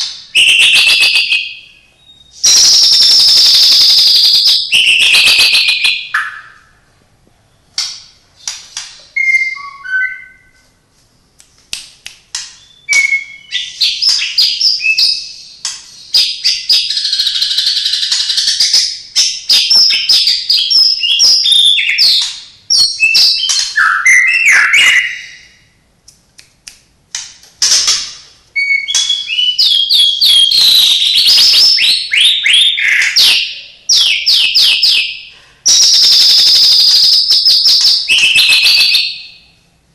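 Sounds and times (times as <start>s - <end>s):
bird singing whistles and trills: 0.0s - 6.8s, 8.4s - 10.6s, 12.5s - 25.7s, 28.6s - 39.6s.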